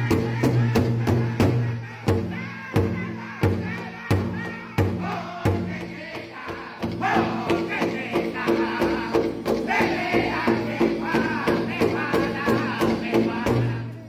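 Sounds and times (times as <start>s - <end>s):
large drum beating: 0.0s - 13.9s
high-pitched group singing: 0.0s - 14.0s.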